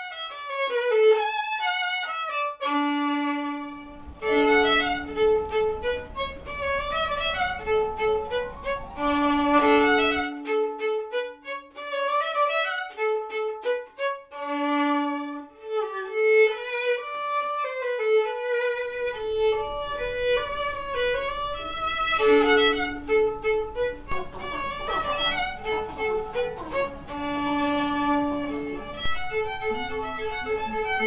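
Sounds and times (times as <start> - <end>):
violin melody: 0.0 - 31.0.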